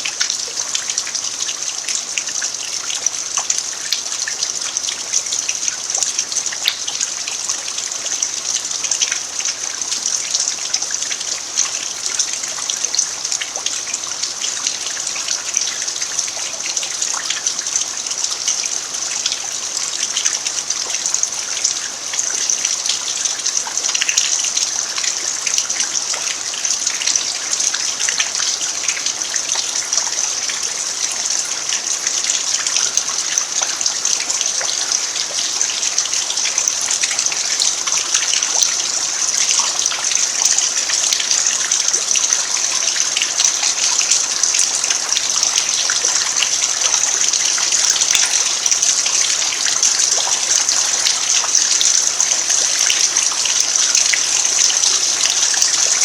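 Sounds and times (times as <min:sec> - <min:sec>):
rain on dirt: 0:03.0 - 0:56.0.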